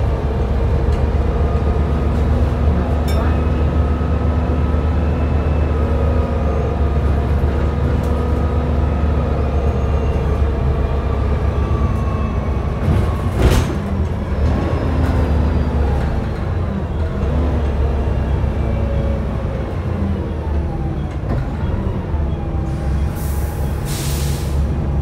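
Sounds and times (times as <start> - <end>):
bus diesel engine droning: 0.0 - 25.0.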